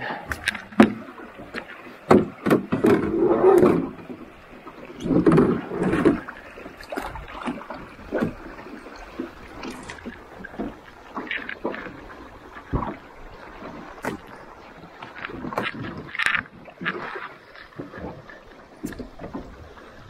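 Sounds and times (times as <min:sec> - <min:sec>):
paddle and canoe hull knocking: 0:00.0 - 0:20.0.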